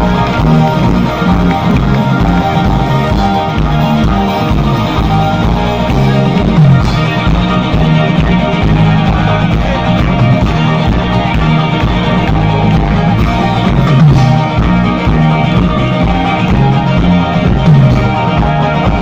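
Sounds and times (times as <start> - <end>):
bass line: 0.0 - 19.0
live rock band playing: 0.0 - 19.0.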